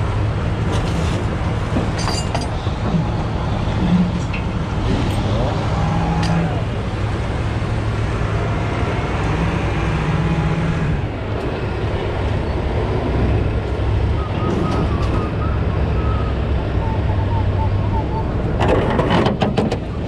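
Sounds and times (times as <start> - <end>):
wheel loader diesel engine running: 0.0 - 20.0.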